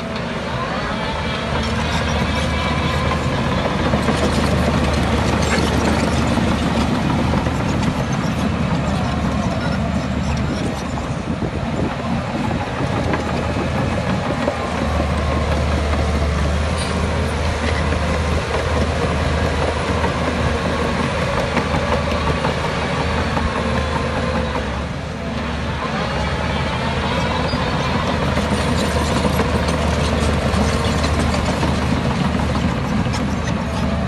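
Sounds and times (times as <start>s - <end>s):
heavy diesel engine droning: 0.0s - 34.0s.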